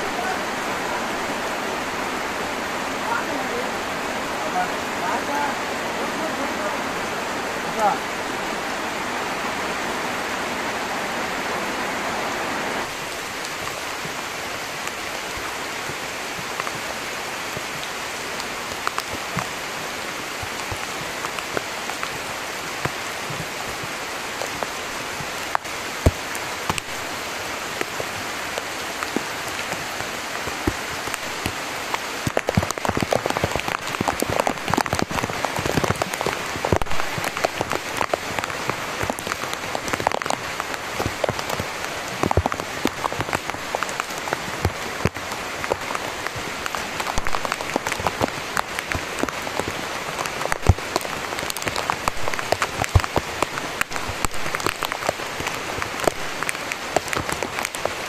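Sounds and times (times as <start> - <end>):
heavy rain hiss: 0.0 - 58.0
large raindrops pattering: 0.0 - 58.0.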